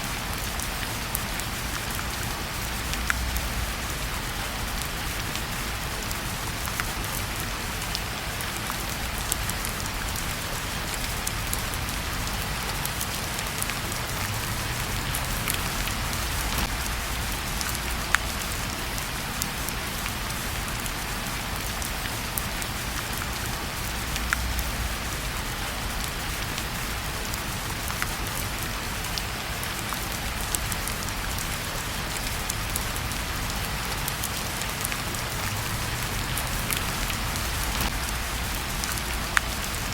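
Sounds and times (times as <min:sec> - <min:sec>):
steady rain: 0:00.0 - 0:39.9
wood fire crackling: 0:00.2 - 0:29.3, 0:29.9 - 0:39.9.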